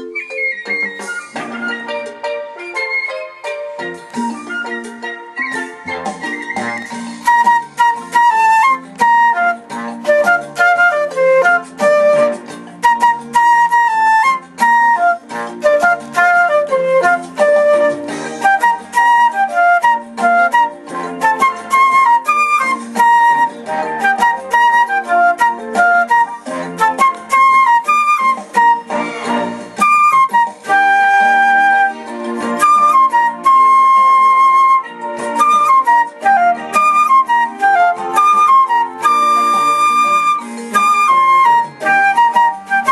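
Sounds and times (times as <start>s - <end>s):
lively flute melody: 0.0s - 42.9s.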